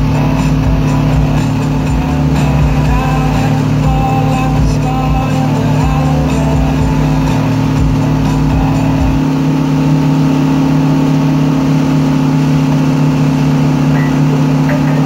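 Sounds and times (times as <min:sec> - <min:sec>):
boat engine droning: 0:00.0 - 0:15.0
rushing boat wake and spray: 0:00.0 - 0:15.0.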